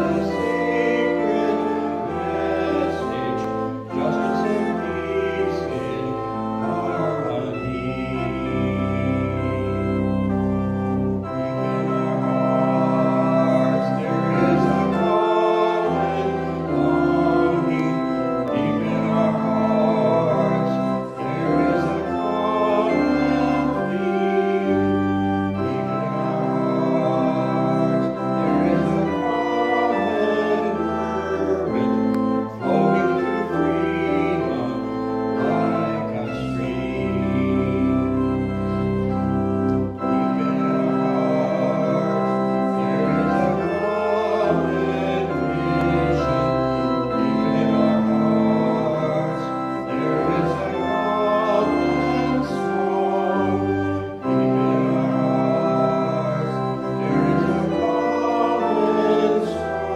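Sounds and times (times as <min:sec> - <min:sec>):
organ playing slow chords: 0:00.0 - 0:59.9.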